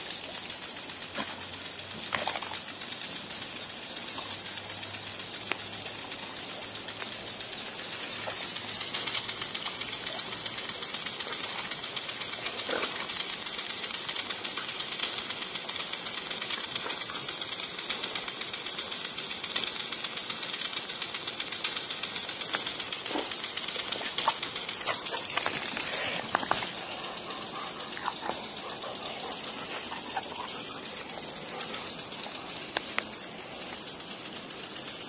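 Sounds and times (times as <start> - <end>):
impact sprinkler ticking: 0.0 - 35.0
water spray hissing: 0.0 - 35.0.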